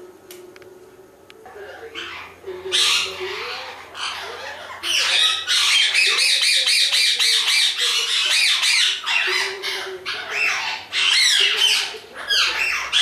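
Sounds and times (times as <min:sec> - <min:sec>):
bird squawking and chattering: 0:01.8 - 0:13.0.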